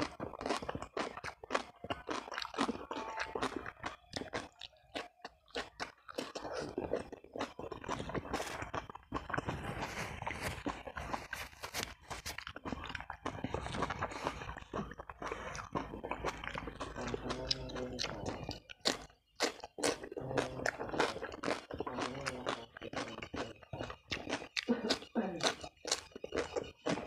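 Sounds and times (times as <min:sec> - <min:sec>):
close wet chewing: 0:00.0 - 0:27.0.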